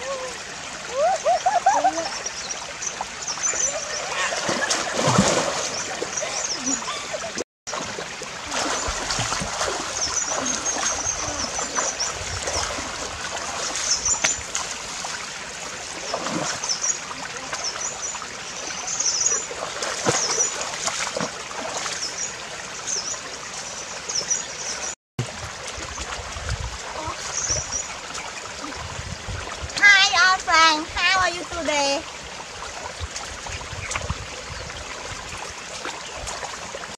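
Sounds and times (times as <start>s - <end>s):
people wading through river water: 0.0s - 36.9s.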